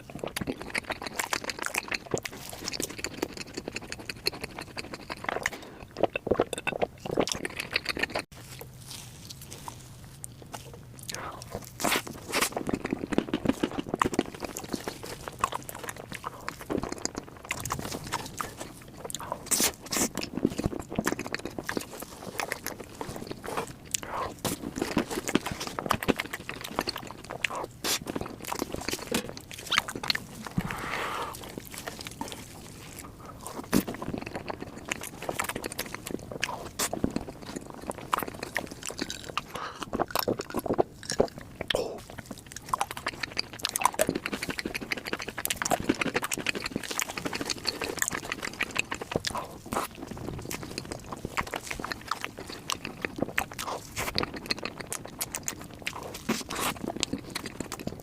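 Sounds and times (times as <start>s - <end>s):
chewing with wet mouth clicks: 0.0s - 58.0s.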